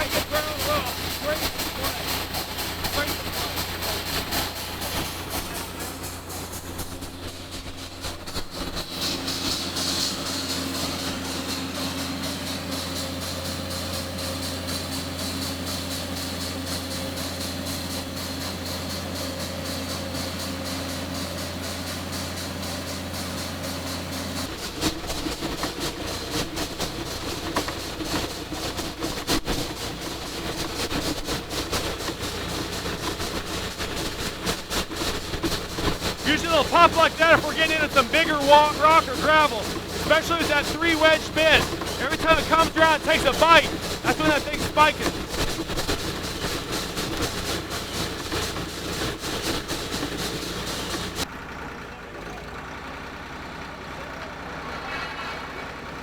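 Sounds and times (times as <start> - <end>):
drill rig drilling: 0.0 - 51.2.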